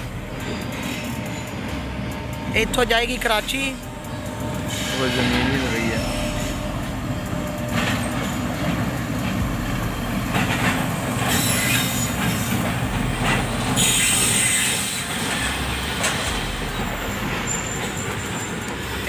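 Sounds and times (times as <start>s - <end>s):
high wheel squeal: 0.0s - 2.5s, 3.1s - 9.1s, 9.7s - 19.0s
train coaches rumbling past: 0.0s - 19.0s.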